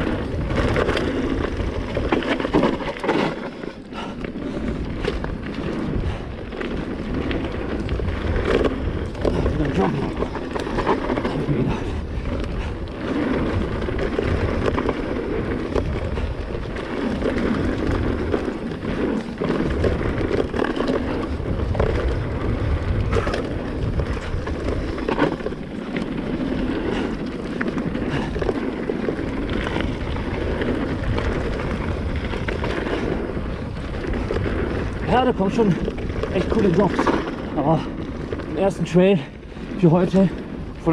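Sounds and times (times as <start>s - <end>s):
bike tyres rolling over stones: 0.0s - 40.9s.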